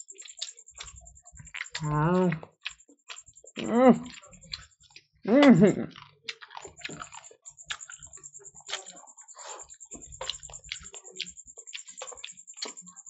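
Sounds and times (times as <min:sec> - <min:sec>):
fingers squishing through food: 0:00.1 - 0:13.0
wet chewing and mouth smacks: 0:00.1 - 0:13.0.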